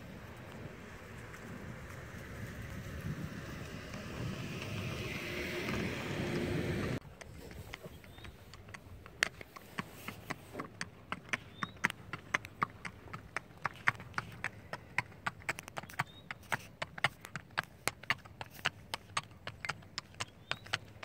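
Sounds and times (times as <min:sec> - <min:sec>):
horse hooves clip-clopping on pavement: 0:00.0 - 0:21.0.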